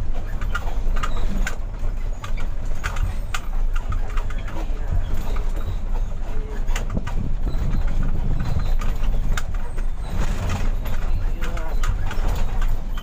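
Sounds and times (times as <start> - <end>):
cab rattling clicks and knocks: 0.0 - 13.0
truck diesel engine rumbling: 0.0 - 13.0.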